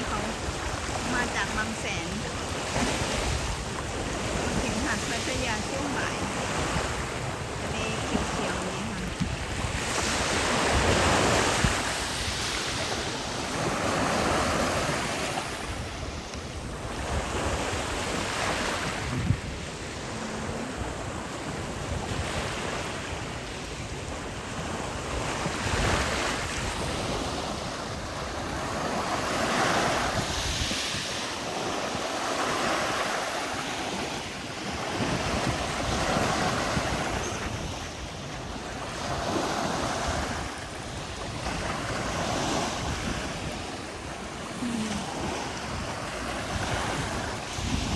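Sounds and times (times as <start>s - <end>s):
sea waves washing onto beach: 0.0s - 47.9s
wind rumbling on microphone: 0.0s - 47.9s.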